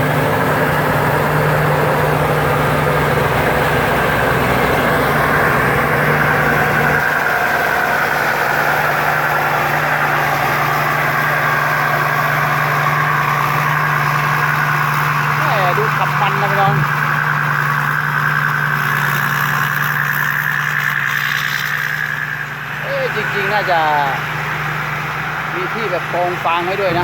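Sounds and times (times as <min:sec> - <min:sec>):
combine harvester engine hum: 0:00.0 - 0:27.0.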